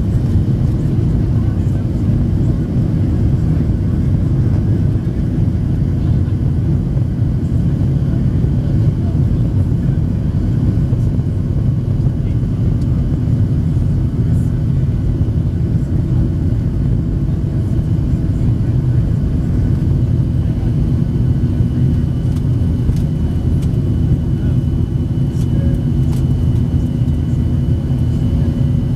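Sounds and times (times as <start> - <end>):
jet cabin rumble: 0.0 - 28.9.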